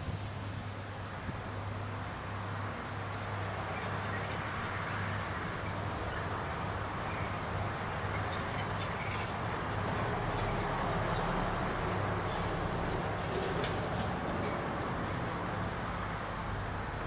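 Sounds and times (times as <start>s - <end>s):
low engine hum: 0.0s - 17.0s
outdoor noise: 0.0s - 17.0s.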